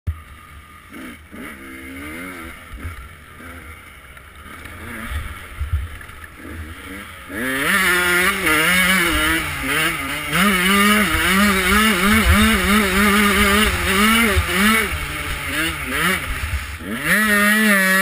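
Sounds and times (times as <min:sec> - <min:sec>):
dirt bike engine revving: 0:00.1 - 0:18.0.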